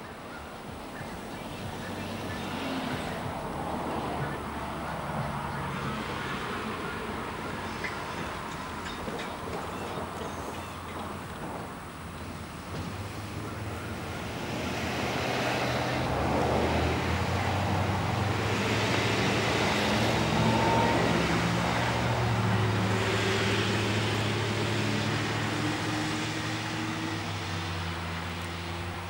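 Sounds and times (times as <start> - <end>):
diesel locomotive engine drone: 0.0 - 29.0
wheels on rail: 0.0 - 29.0.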